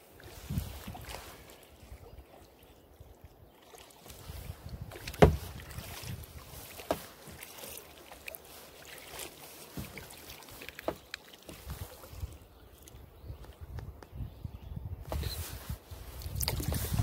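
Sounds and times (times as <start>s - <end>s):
paddle strokes through water: 0.0s - 14.1s, 14.9s - 17.0s.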